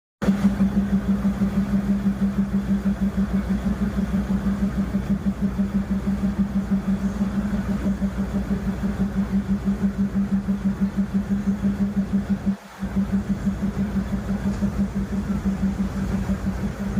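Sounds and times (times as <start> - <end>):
vehicle engine idling: 0.2 - 16.9.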